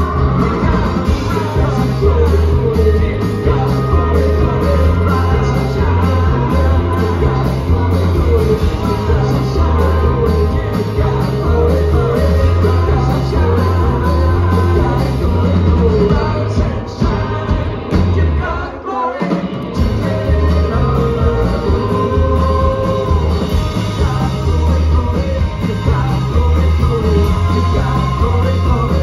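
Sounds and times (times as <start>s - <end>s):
pulsing bass beat: 0.0s - 18.4s, 19.8s - 29.0s
rock band playing: 0.0s - 29.0s.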